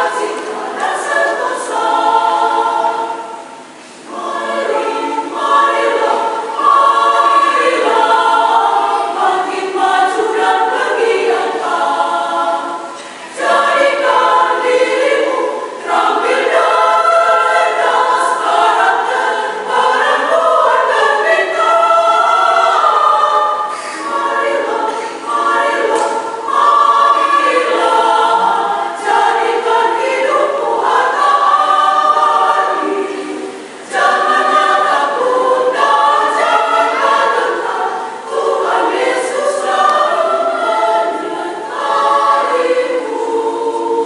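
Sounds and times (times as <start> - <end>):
women's choir singing: 0.0 - 44.0.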